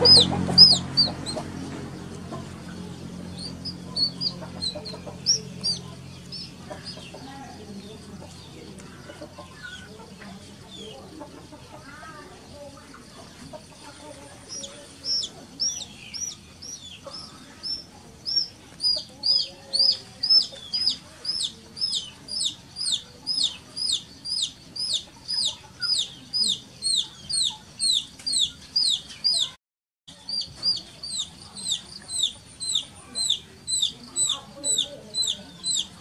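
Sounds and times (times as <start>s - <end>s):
chick peeping loudly: 0.0s - 36.0s.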